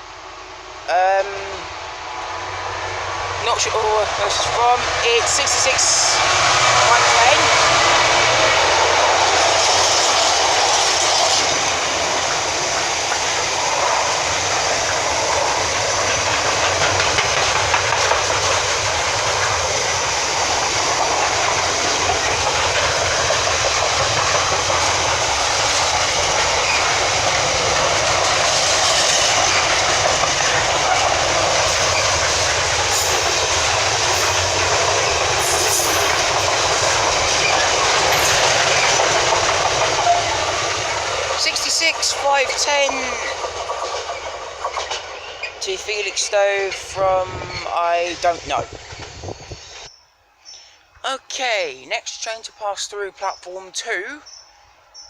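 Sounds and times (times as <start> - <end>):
train wheels running on rails: 0.0 - 49.9.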